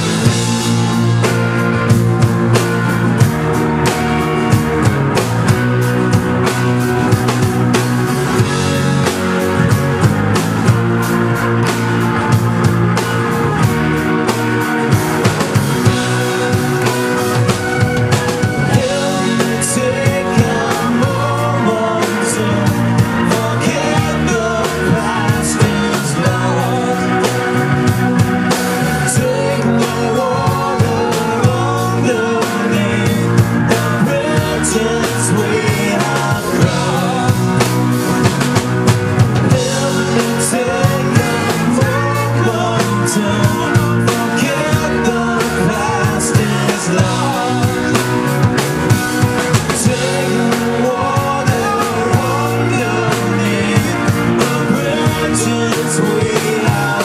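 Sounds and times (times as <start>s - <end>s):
backing vocals: 0.0s - 57.0s
drum kit with cymbal hits: 0.0s - 57.0s
electric guitars: 0.0s - 57.0s
lead singer: 0.0s - 57.0s.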